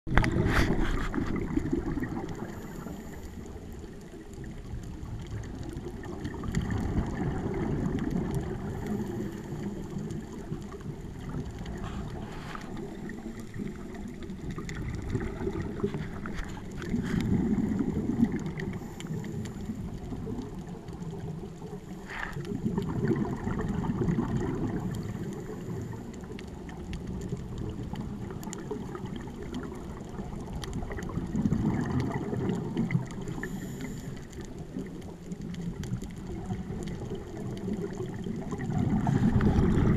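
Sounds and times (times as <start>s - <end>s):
underwater bubbling of diver breath: 0.1s - 39.9s
faint clicks: 2.1s - 39.7s.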